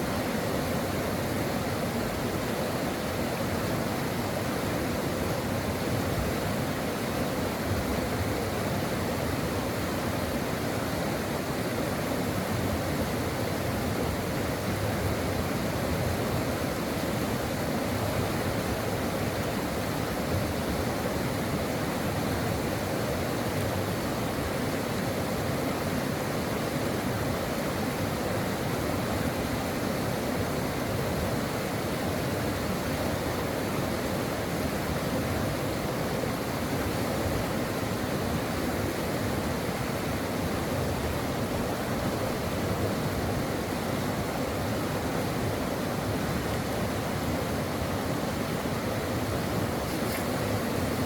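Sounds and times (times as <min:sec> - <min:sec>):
stream water rushing over rocks: 0:00.0 - 0:51.0.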